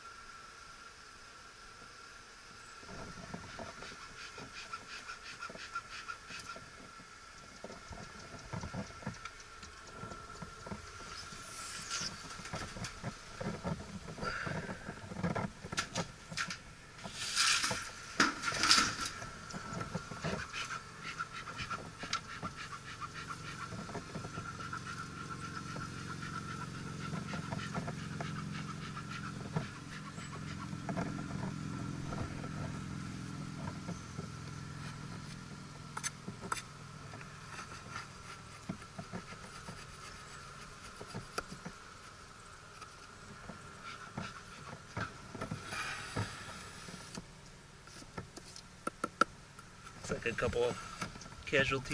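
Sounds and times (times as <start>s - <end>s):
bees buzzing: 1.9s - 48.2s.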